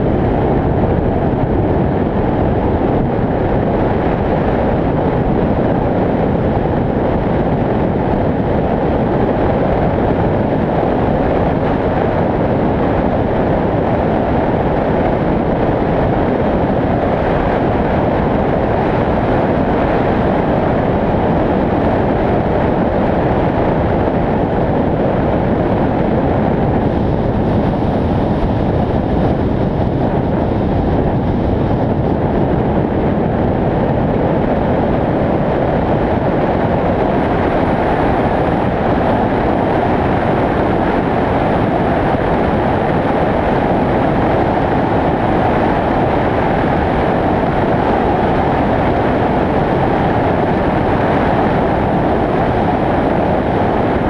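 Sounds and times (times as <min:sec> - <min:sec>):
road noise at speed: 0:00.0 - 0:54.0
wind rushing on microphone: 0:00.0 - 0:54.0.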